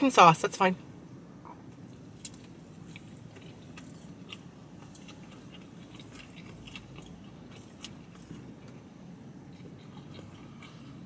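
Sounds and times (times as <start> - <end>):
low steady hum: 0.0 - 11.0
person chewing food: 1.5 - 11.0.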